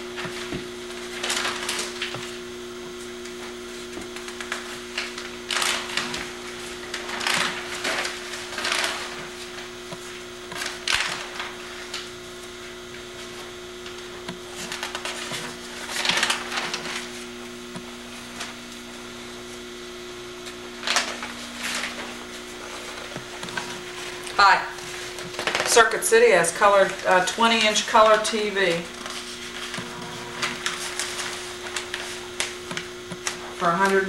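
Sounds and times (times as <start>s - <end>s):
steady low hum: 0.0s - 34.0s
newspaper pages rustling: 0.2s - 2.4s, 3.0s - 19.7s, 20.4s - 34.0s.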